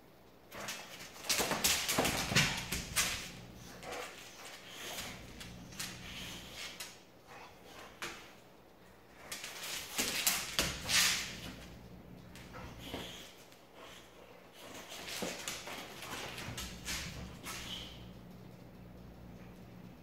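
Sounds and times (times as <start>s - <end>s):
dog claws clicking on floor: 0.5s - 8.4s, 9.1s - 14.0s, 14.6s - 18.1s.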